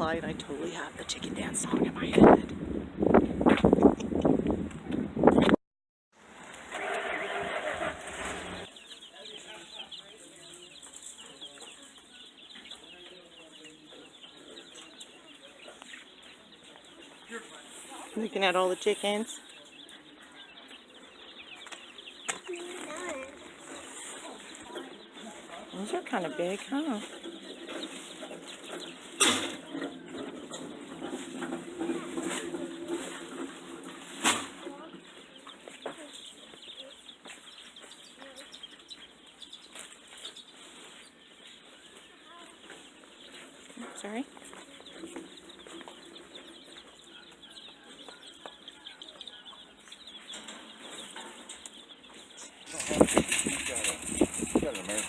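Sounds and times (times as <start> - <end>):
baby chicks peeping: 6.5 - 55.0.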